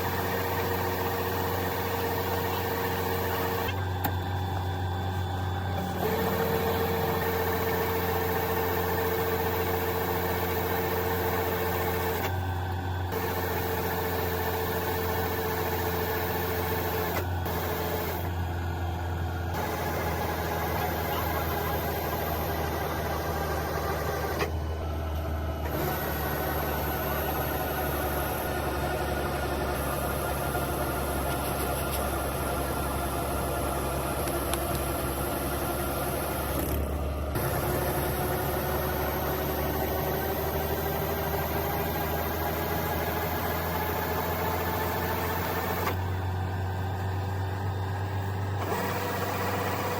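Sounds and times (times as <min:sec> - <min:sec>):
combine harvester engine droning: 0:00.0 - 0:49.9.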